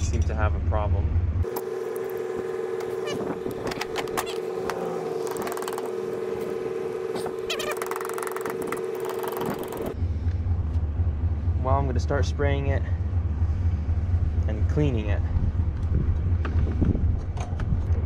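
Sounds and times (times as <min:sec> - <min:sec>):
outdoor ambience: 0:00.0 - 0:18.0.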